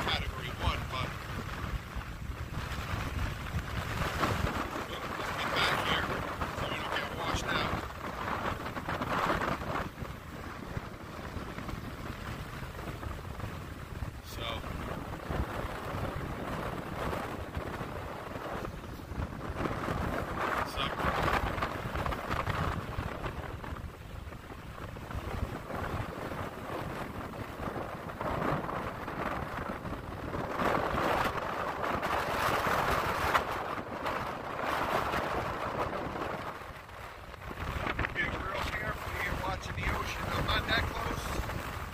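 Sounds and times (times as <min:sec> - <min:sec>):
heavy surf rushing: 0:00.0 - 0:41.9
wind buffeting microphone: 0:00.0 - 0:41.9.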